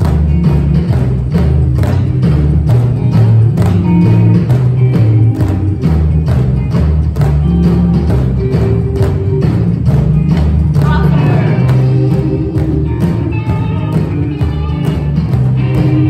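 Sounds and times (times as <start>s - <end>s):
upbeat rock song: 0.0s - 16.0s.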